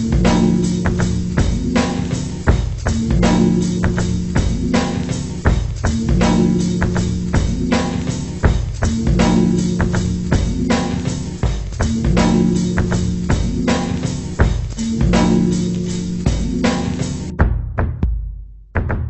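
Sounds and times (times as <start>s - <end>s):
drum and guitar music: 0.0s - 19.0s.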